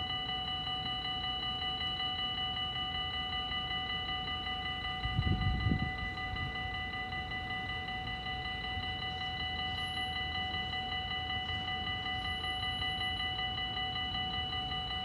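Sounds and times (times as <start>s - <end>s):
level-crossing bell ringing: 0.0s - 15.0s.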